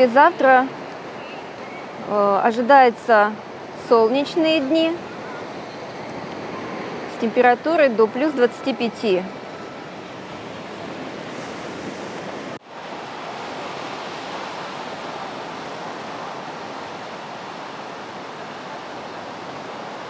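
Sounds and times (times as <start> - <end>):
sea surf breaking on beach: 3.4 - 20.0.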